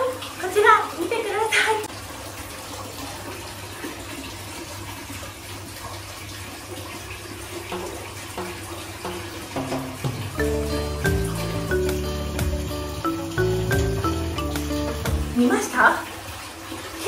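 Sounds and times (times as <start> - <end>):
water pouring into bath: 0.0 - 17.0.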